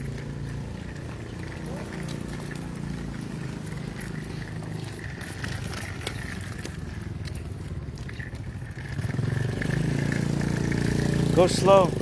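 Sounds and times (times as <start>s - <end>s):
stroller wheels rattling on asphalt: 0.0s - 12.0s.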